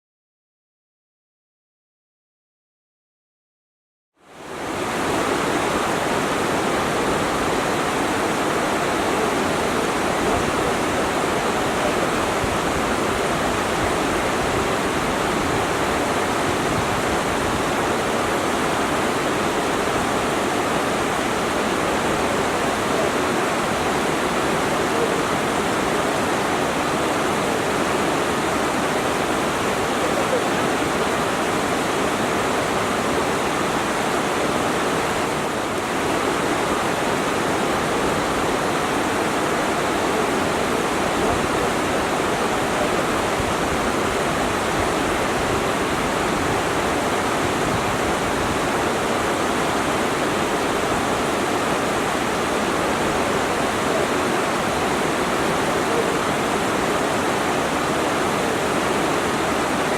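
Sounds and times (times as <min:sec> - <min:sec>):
waterfall: 0:04.2 - 0:59.9.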